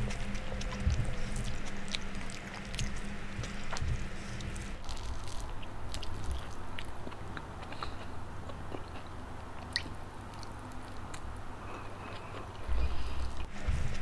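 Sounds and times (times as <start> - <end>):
chewing rice: 0.0 - 14.0.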